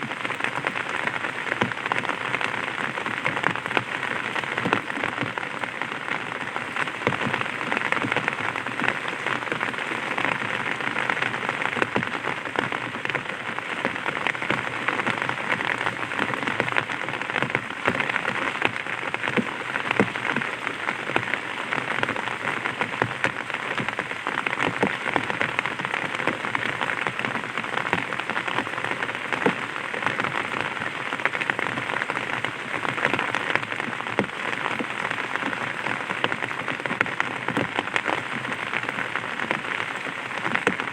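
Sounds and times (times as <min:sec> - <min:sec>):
light rain pattering on umbrella: 0:00.0 - 0:40.9.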